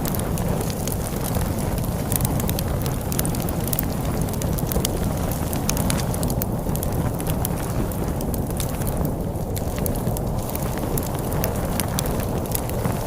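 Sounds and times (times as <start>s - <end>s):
storm wind rumbling: 0.0s - 13.0s
wood fire crackling and popping: 0.0s - 13.0s.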